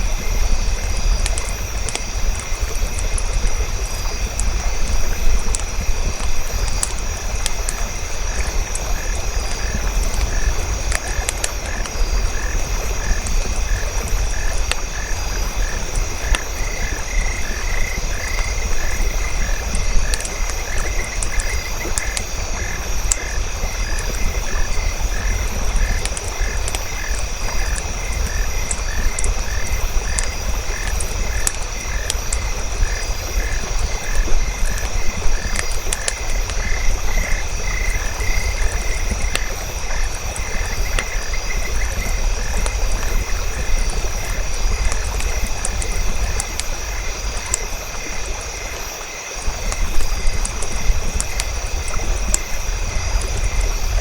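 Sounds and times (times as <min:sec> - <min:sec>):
campfire crackling: 0:00.0 - 0:54.0
frogs croaking: 0:00.0 - 0:54.0.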